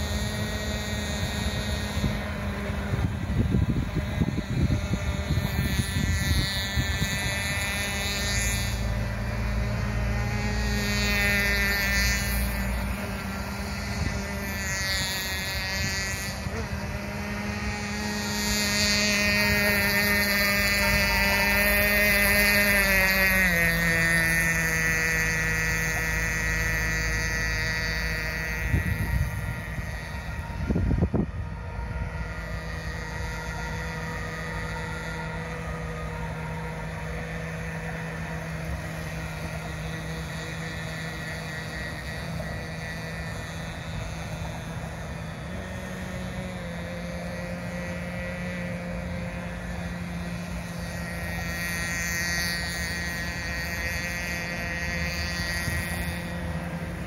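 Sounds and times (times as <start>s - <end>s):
model boat engine running: 0.0s - 57.0s.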